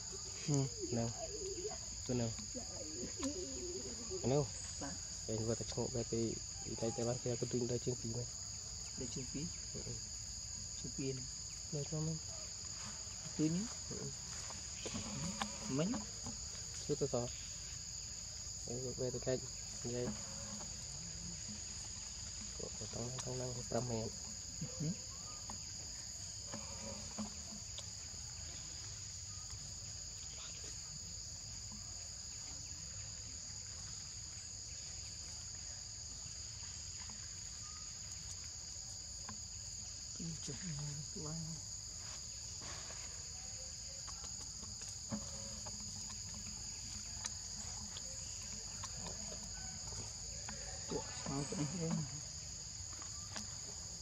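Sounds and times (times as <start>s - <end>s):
shrill insect chorus: 0.0s - 54.0s.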